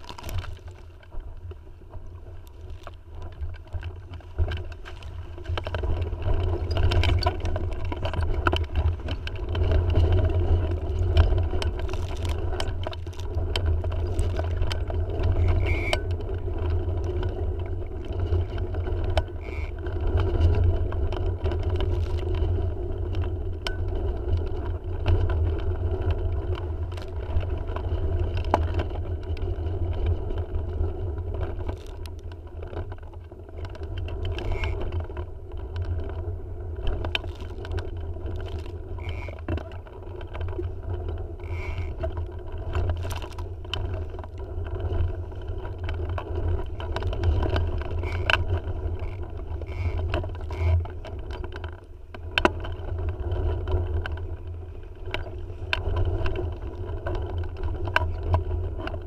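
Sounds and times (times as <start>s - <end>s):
water rushing against a hull: 0.0s - 59.0s
wind buffeting microphone: 0.0s - 59.0s.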